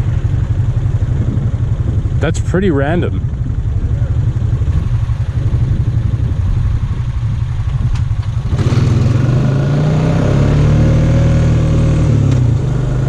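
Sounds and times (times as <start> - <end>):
atv engine idling and revving: 0.0 - 13.0.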